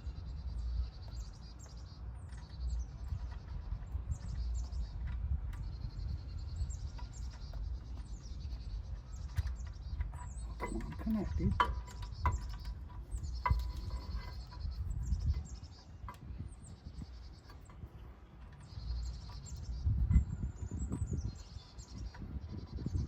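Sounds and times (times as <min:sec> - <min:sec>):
birds singing trilled phrases: 0:00.0 - 0:23.0.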